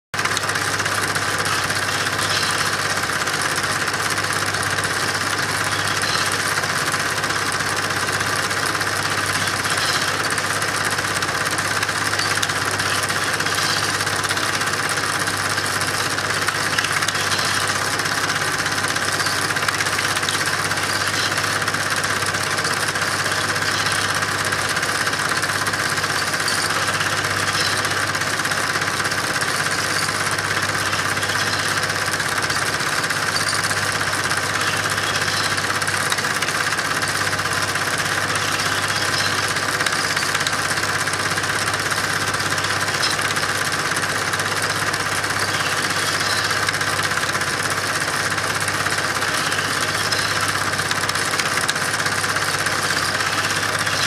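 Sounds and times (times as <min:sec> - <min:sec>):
mechanical running hum: 0:00.2 - 0:54.0.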